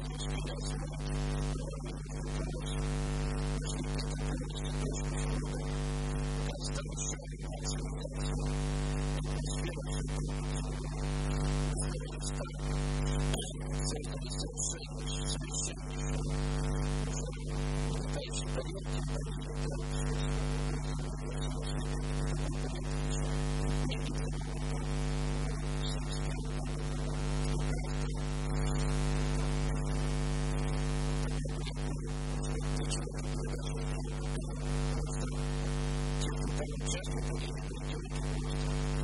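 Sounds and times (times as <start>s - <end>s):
constant hiss: 0.0s - 39.0s
electrical mains hum: 0.0s - 39.0s.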